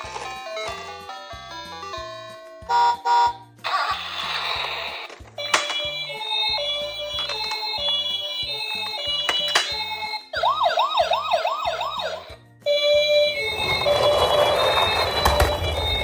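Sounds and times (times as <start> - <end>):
background music: 0.0 - 16.0
toy siren yelping: 2.7 - 16.0.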